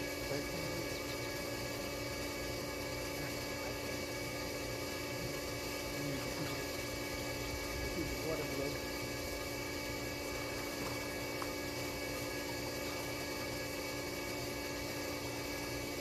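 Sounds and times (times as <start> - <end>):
constant hiss: 0.0 - 16.0
machine hum: 0.0 - 16.0.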